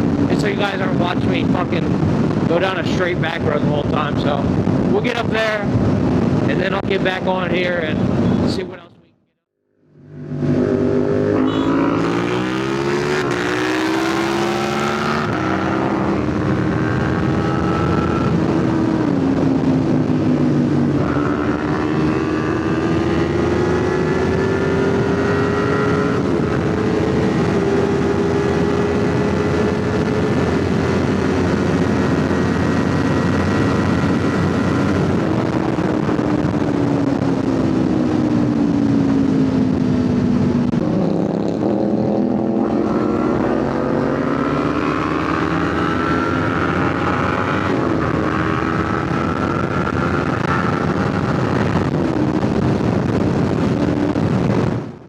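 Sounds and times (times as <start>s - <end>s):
motorcycle engine shifting gears: 10.2s - 54.3s.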